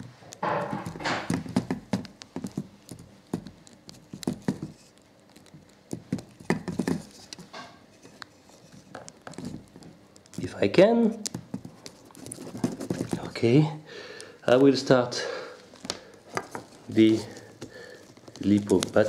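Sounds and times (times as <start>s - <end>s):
handling rustle: 0.6s - 13.6s, 15.6s - 19.0s.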